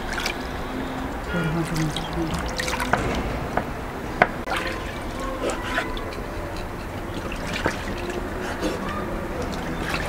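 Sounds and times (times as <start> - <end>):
water splashing and dripping: 0.0 - 10.0.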